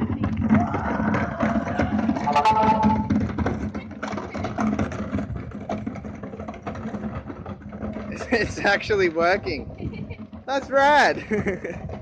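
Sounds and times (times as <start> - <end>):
go-kart rattling over gravel: 0.0 - 12.0.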